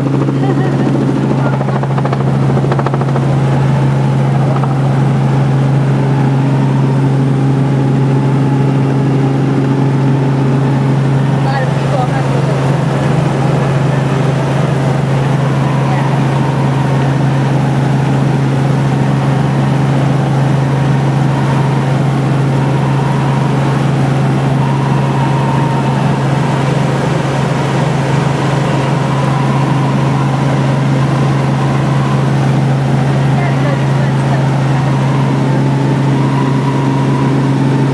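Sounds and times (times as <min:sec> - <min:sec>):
helicopter engine and rotors droning: 0:00.0 - 0:37.9.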